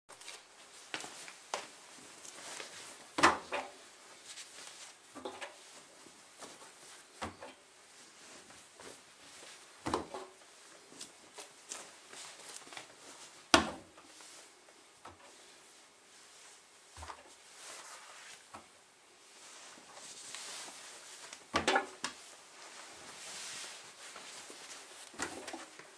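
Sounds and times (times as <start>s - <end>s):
fabric rustling: 0.1s - 3.2s, 3.8s - 7.2s, 7.8s - 9.8s, 10.4s - 25.9s.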